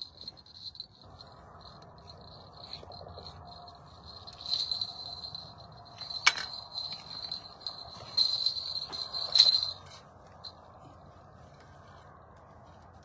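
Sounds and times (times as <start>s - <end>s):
crickets chirping: 0.0s - 10.7s
small bell jingling: 0.0s - 11.2s.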